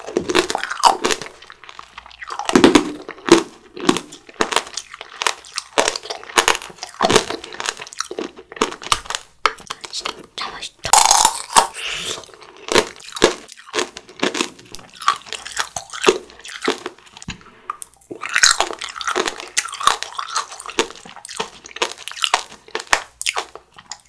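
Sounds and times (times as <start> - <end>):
wet squishy chewing: 0.0 - 10.3, 11.6 - 24.0
hard sugar shell crunching: 0.0 - 24.0.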